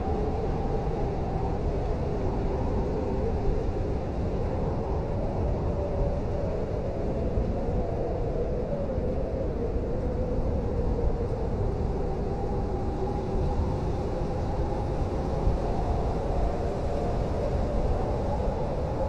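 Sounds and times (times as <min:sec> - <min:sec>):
blizzard wind rumbling: 0:00.0 - 0:19.0.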